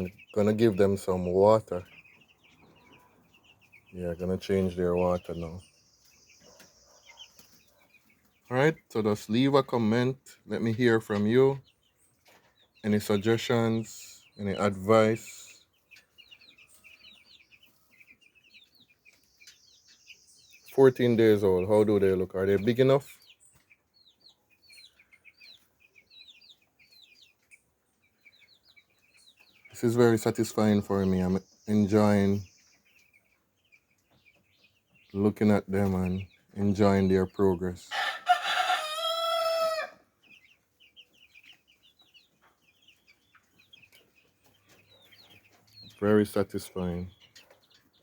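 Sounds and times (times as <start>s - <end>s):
chicks peeping: 0.0s - 48.0s.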